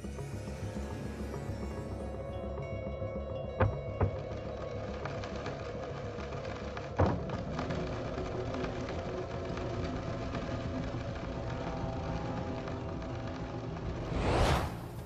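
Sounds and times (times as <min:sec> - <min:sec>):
ambient music with held tones: 0:00.0 - 0:15.0.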